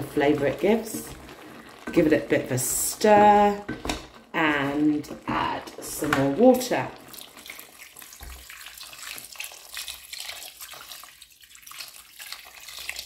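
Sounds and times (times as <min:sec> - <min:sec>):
water pouring into a pot: 0:00.0 - 0:13.0.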